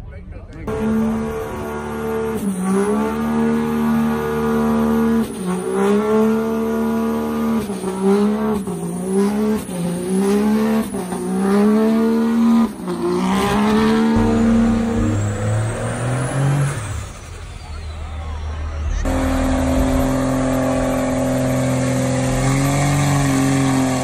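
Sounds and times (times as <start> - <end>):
engine at high revs: 0.7 - 17.5, 18.7 - 24.0.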